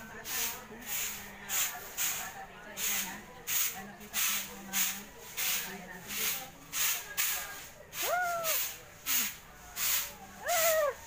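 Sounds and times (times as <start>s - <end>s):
broom sweeping ash on pavement: 0.0s - 11.0s.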